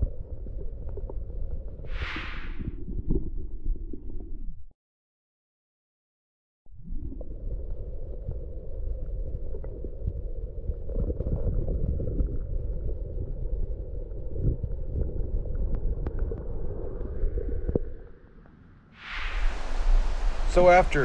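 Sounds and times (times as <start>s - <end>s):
muffled underwater river rumble: 0.0s - 4.7s, 6.7s - 21.0s.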